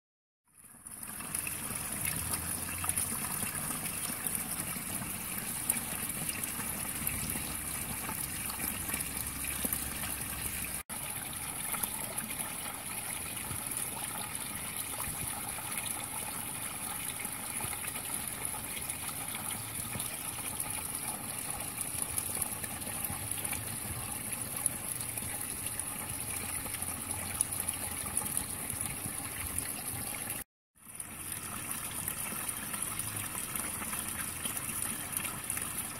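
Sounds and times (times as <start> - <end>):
water trickling into pond: 0.4 - 35.9.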